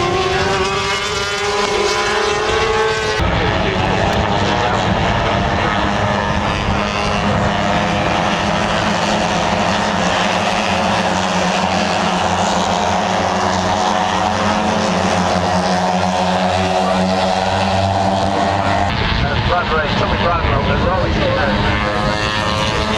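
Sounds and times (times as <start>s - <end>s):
steady engine drone: 0.0s - 22.9s.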